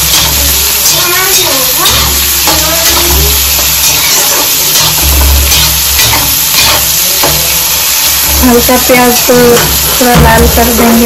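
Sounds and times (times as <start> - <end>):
metal spatula scraping: 0.0 - 11.0
onions sizzling in hot oil: 0.0 - 11.0.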